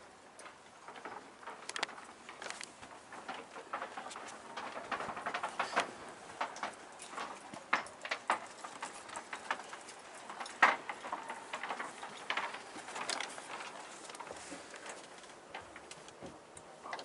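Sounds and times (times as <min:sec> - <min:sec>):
footsteps on fibreglass deck: 0:00.4 - 0:16.8.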